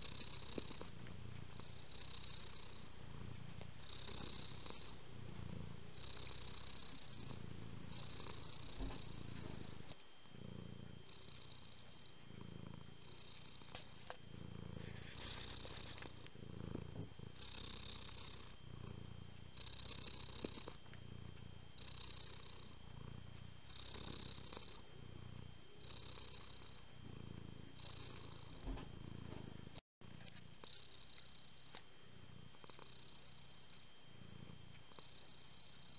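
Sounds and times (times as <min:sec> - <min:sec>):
cat purring: 0:00.0 - 0:35.9
faint high whine: 0:00.0 - 0:35.9.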